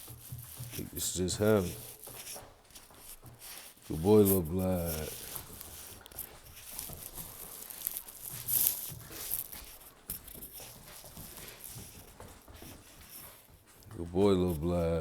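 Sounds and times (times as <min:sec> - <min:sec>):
puppy rustling and scraping toy: 0:00.0 - 0:14.6.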